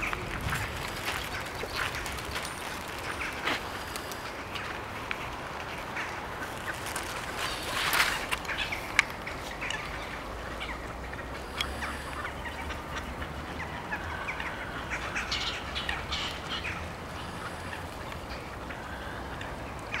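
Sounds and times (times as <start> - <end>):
ducks quacking: 0.0 - 20.0
waterbirds calling: 0.0 - 20.0.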